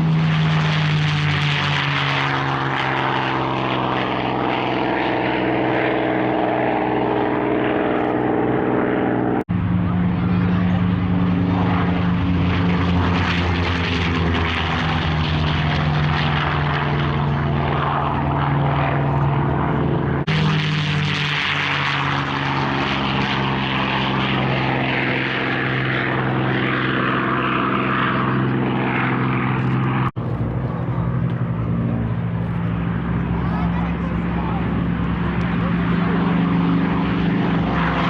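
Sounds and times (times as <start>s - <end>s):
piston aircraft engines droning: 0.0s - 38.0s.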